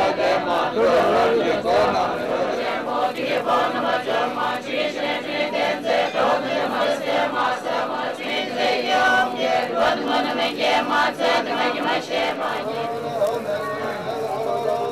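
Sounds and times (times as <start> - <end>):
crowd chanting a prayer: 0.0 - 14.9.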